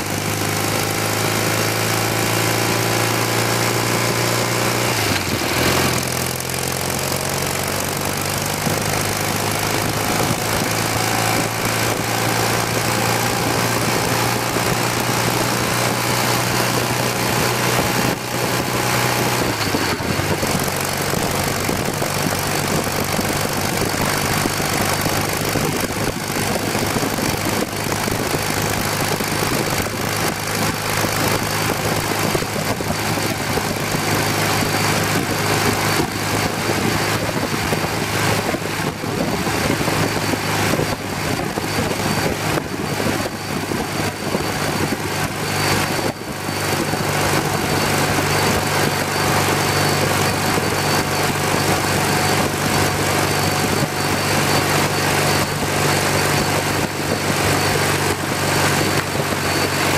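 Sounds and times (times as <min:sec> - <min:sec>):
motorcycle engine running: 0:00.0 - 0:59.9
wind noise on microphone: 0:02.6 - 0:59.9.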